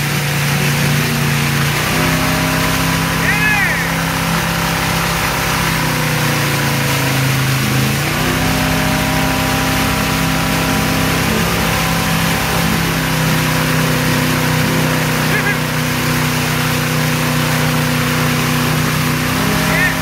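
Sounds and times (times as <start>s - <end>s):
motorboat engine running: 0.0s - 20.0s
rushing water hiss: 0.0s - 20.0s.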